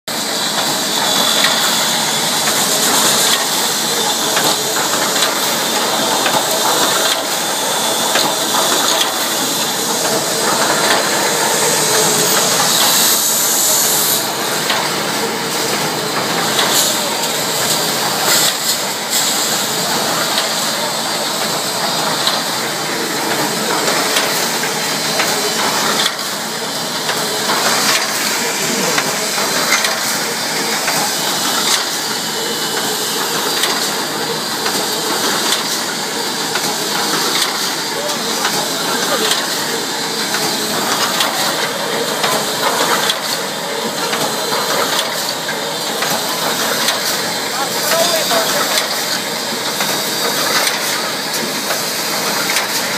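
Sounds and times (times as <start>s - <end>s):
machine clattering and hissing: 0.1s - 52.9s.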